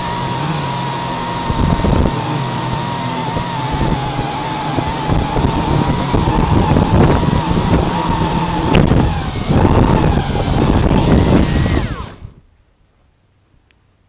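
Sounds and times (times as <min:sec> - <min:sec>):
drone motors whining: 0:00.0 - 0:12.4.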